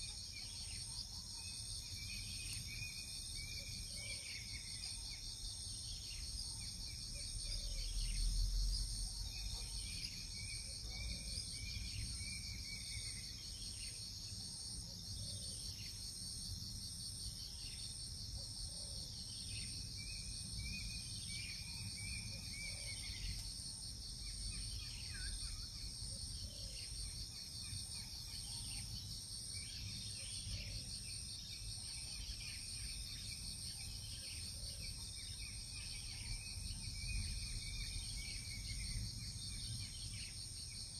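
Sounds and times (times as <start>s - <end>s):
crickets and insects trilling: 0.0s - 40.9s.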